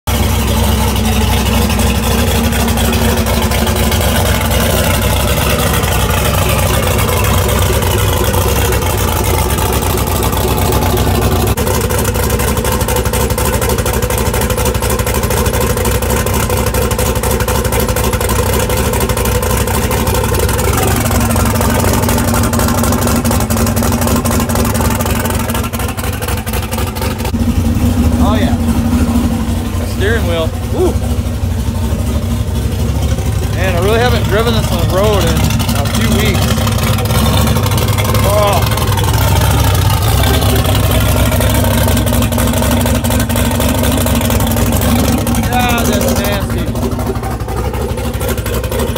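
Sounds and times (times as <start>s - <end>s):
car engine idling loudly: 0.0s - 48.9s.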